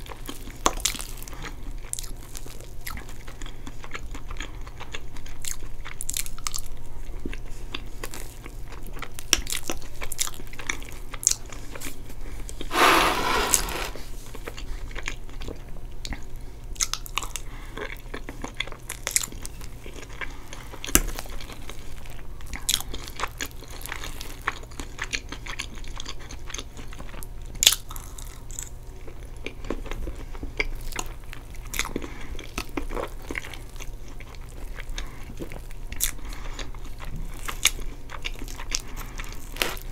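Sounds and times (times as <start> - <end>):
chewing and wet mouth sounds: 0.0 - 12.0, 14.9 - 39.9.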